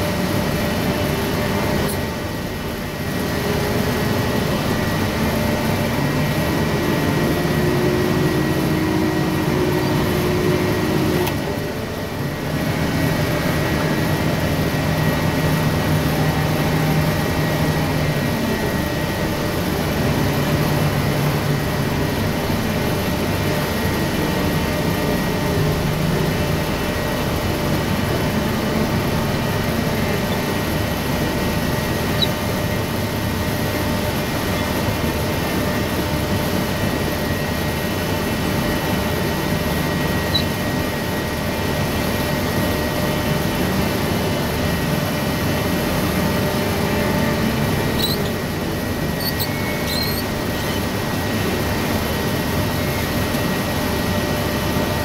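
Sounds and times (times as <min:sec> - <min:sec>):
forklift engine running: 0:00.0 - 0:55.0.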